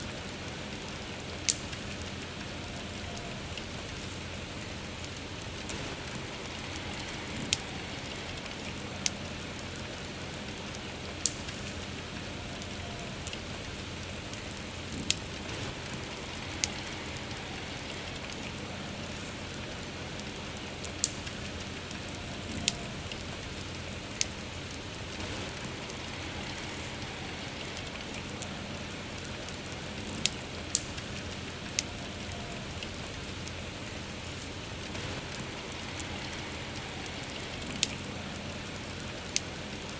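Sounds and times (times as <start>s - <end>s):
campfire crackling and popping: 0.0s - 39.9s
steady rain pattering: 0.0s - 39.9s.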